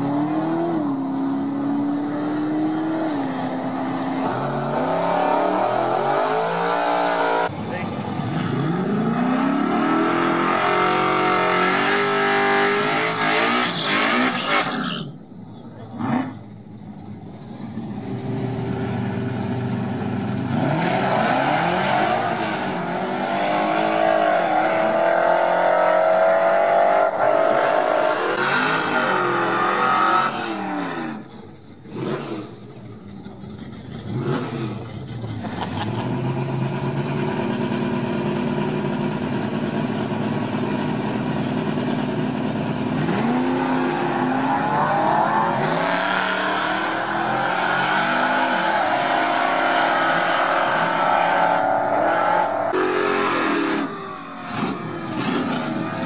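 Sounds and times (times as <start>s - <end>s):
car engines revving hard: 0.0s - 16.7s, 17.7s - 32.8s, 33.6s - 56.0s.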